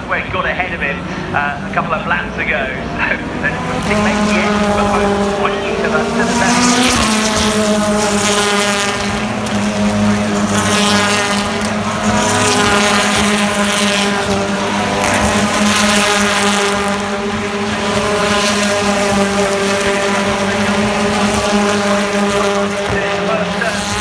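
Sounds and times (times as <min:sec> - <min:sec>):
racing car engine drone: 0:00.0 - 0:24.0.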